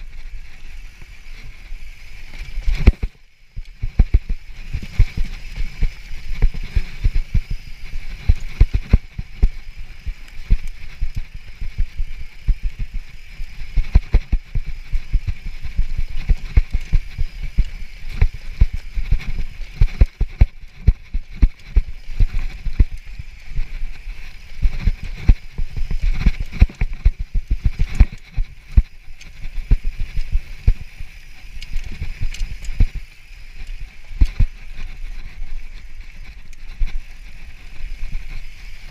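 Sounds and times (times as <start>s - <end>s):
mountain bike rattling over rocks: 0.0s - 38.9s
steady high hiss: 0.0s - 38.9s.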